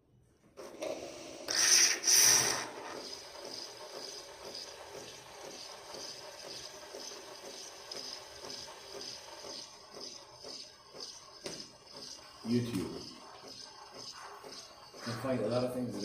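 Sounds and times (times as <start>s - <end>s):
coffee machine frothing milk: 0.5s - 16.0s
loud hissing spurts: 1.4s - 16.0s.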